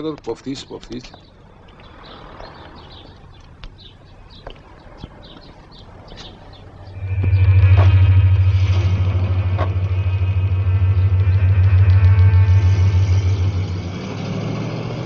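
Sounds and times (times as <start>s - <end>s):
birds chirping: 0.0s - 15.0s
car engine starting and droning: 1.4s - 15.0s.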